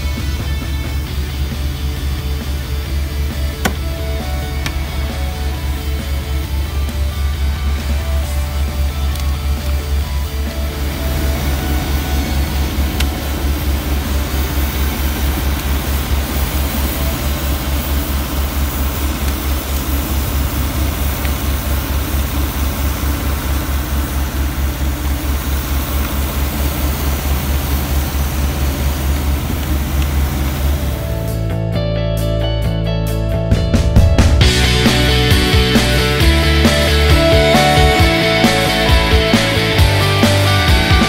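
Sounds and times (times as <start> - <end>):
engine running with throb: 0.0 - 31.8, 33.2 - 41.0.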